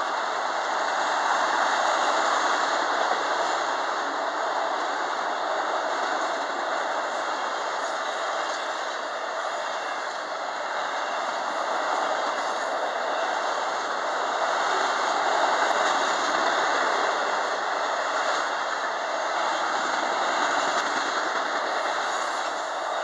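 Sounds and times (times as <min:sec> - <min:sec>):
steel wheels running on rails: 0:00.0 - 0:23.0.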